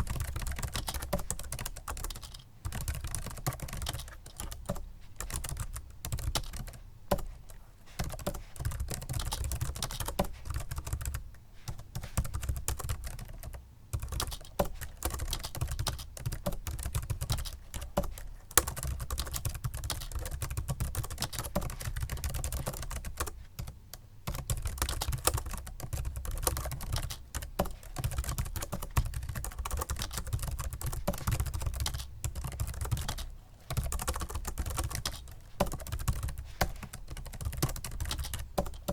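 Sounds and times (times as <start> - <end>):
typing on keyboard: 0.0 - 38.9.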